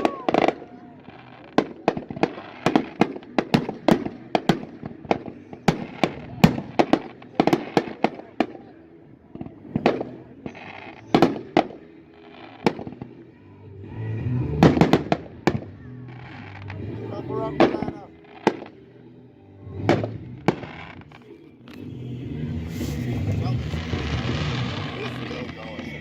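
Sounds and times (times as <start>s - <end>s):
fireworks bangs and cracks: 0.0s - 13.3s, 14.2s - 18.9s, 19.7s - 26.0s.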